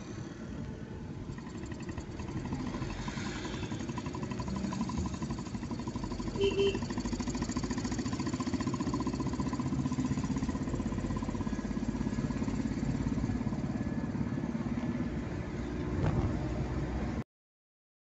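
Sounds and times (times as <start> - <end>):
road noise: 0.0 - 17.2
car engine: 1.0 - 17.2.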